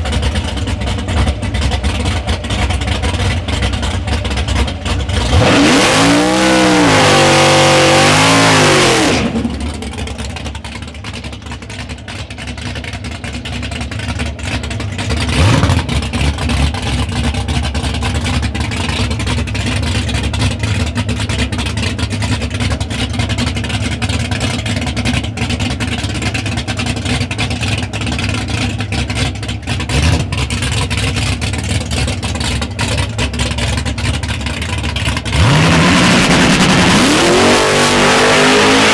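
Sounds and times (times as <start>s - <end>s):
drag car engine revving: 0.0s - 38.9s.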